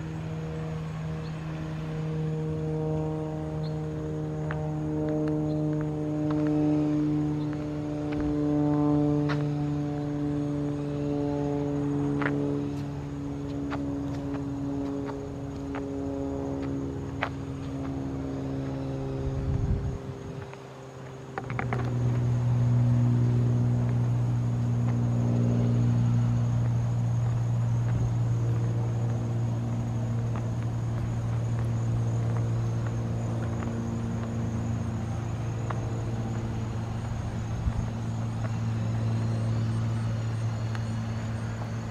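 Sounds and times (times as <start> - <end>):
low mechanical drone: 0.0 - 41.9.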